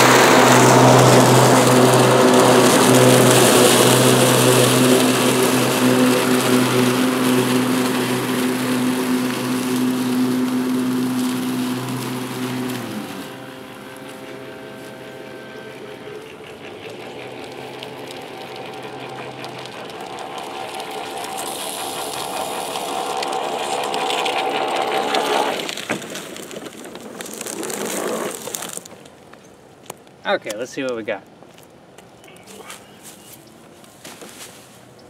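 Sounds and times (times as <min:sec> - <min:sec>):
electric lawn mower running: 0:00.0 - 0:29.2.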